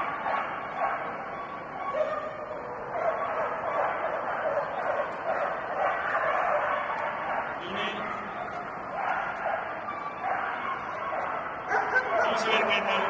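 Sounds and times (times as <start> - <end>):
dog barking: 0.0 - 13.0
steady background noise: 0.0 - 13.0.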